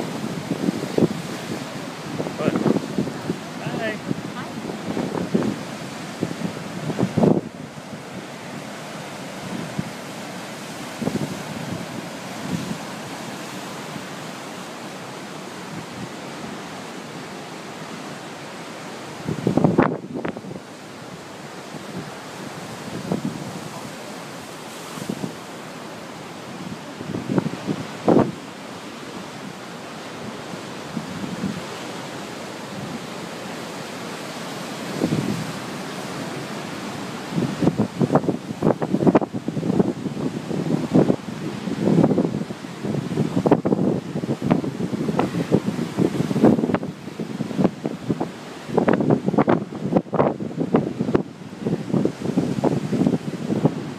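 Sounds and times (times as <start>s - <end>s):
wind buffeting microphone: 0.0s - 17.0s, 17.8s - 33.4s, 34.0s - 53.9s
surf breaking on rocks: 0.0s - 53.9s.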